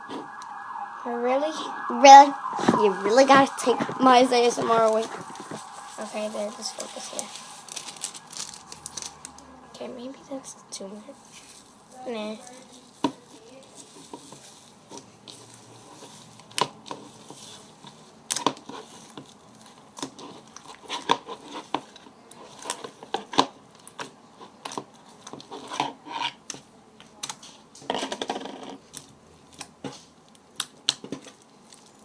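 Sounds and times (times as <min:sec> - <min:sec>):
foam slime popping and crackling: 0:01.8 - 0:09.4, 0:11.2 - 0:32.0.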